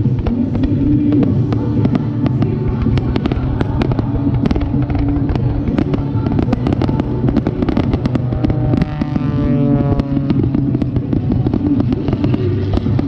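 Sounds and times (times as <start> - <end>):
fireworks cracking and popping: 0.0 - 13.0
steady low drone: 0.0 - 13.0.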